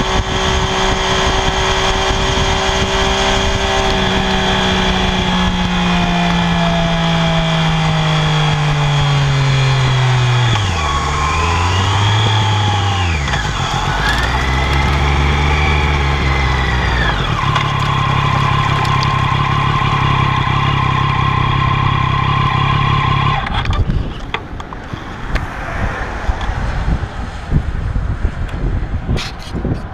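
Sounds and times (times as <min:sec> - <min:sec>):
motorcycle engine revving: 0:00.0 - 0:24.2.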